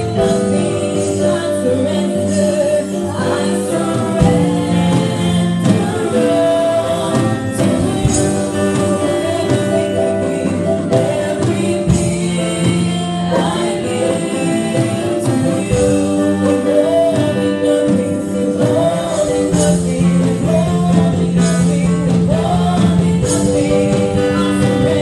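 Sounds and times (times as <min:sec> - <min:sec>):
band with keyboard and drums: 0:00.0 - 0:25.0
singers holding long notes: 0:00.0 - 0:25.0.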